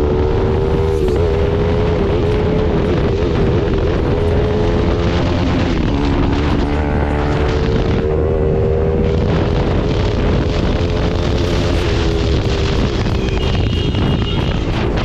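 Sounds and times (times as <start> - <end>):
motorcycle engine loud exhaust: 0.0 - 15.0
wind on microphone: 0.0 - 15.0.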